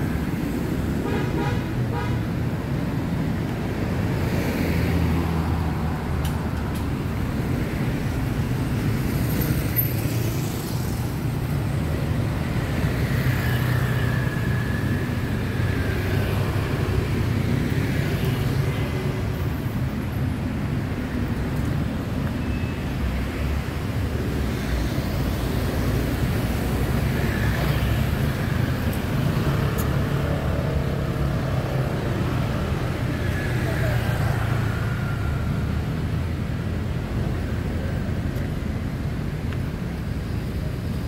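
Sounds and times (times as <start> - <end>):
cars and motorcycles passing: 0.0 - 41.0.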